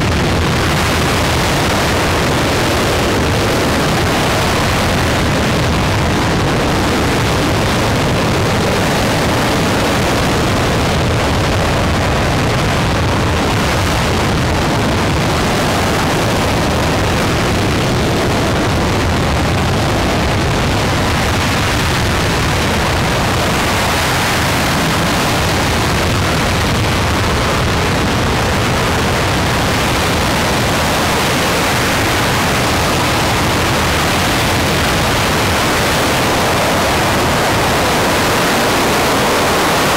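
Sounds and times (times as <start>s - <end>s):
rocket engine roaring: 0.0s - 39.9s.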